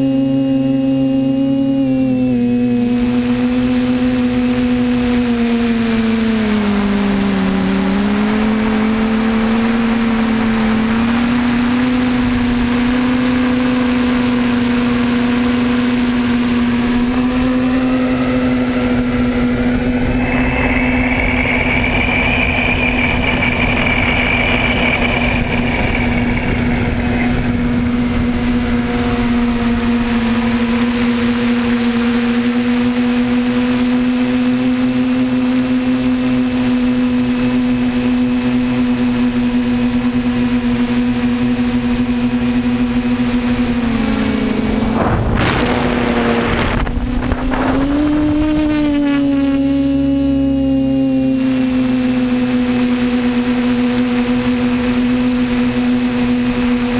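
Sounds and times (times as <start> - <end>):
drone propellers humming: 0.0 - 56.9.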